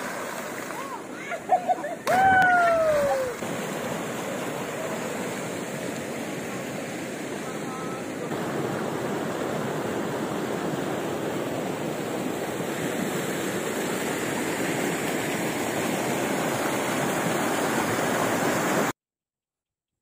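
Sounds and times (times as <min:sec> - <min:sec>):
river water rushing over rocks: 0:02.1 - 0:18.9.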